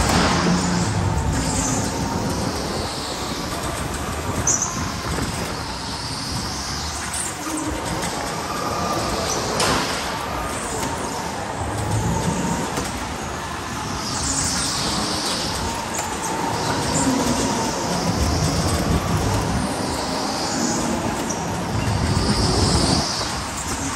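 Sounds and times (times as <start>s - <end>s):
tyre and wind noise: 0.0s - 23.9s.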